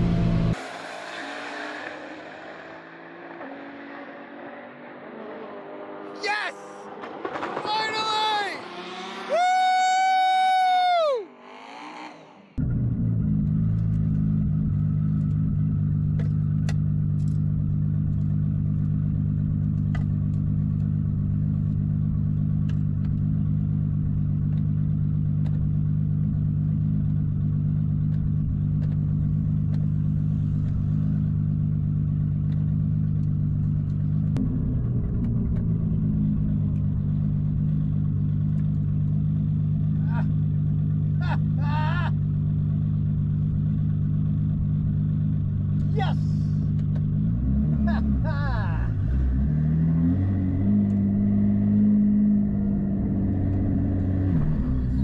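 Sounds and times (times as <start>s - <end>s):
car engine running steadily: 0.0s - 9.7s, 12.6s - 55.0s.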